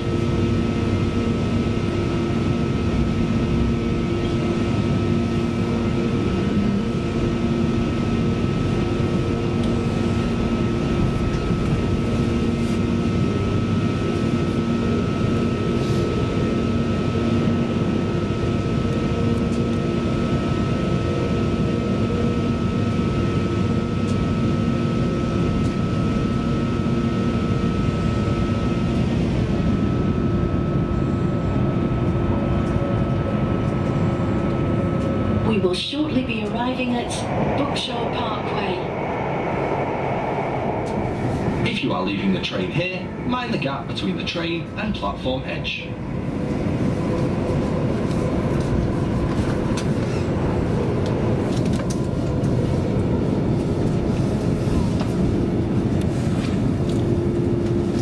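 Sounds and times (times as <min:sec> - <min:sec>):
rumble of wheels on rail: 0:00.0 - 0:58.0
steady humming tones: 0:00.0 - 0:58.0.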